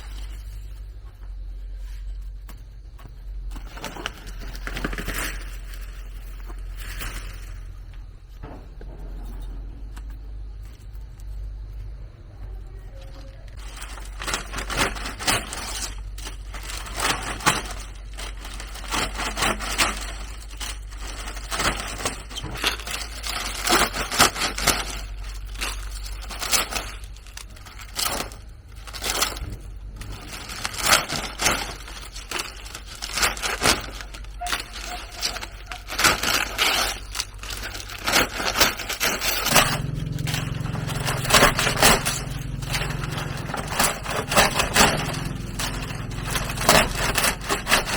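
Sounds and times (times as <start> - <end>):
low steady hum: 0.0 - 47.9
wood scraping and crackling: 0.0 - 47.9.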